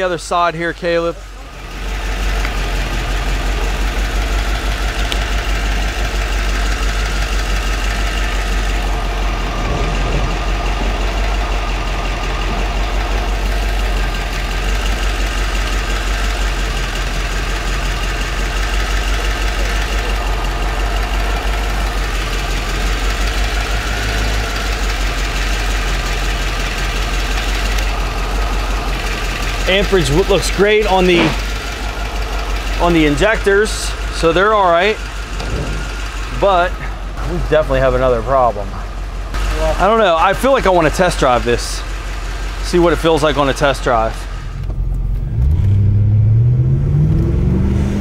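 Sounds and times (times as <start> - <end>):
engine idling unevenly: 0.0 - 45.4.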